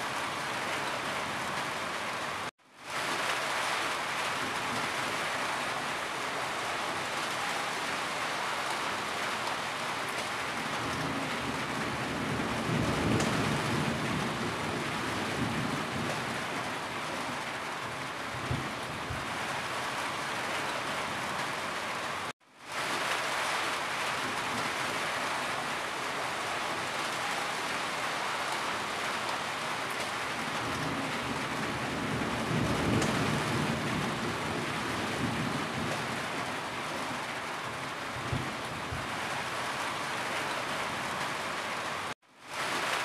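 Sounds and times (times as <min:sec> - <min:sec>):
rain on a tin roof: 0:00.0 - 0:43.0.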